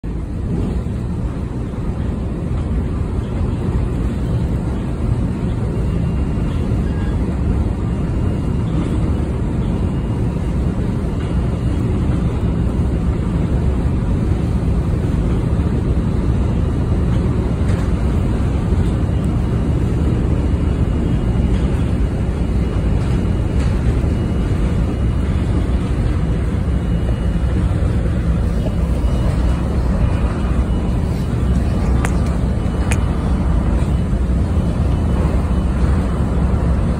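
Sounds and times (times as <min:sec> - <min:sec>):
vehicle rumble and hiss from inside: 0:00.0 - 0:36.9.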